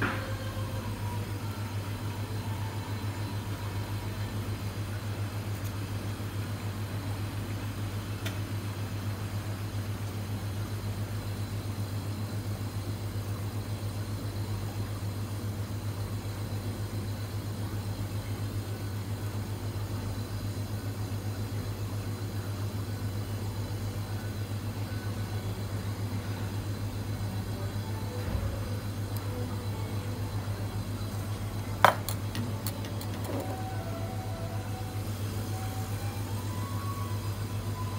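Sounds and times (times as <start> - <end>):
faint high whine: 0.0 - 37.9
low machine hum: 0.0 - 37.9.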